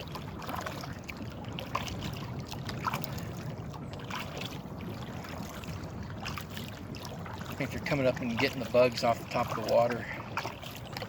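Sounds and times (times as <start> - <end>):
small splashes and knocks: 0.0 - 11.0
water against kayak hull: 0.0 - 11.0.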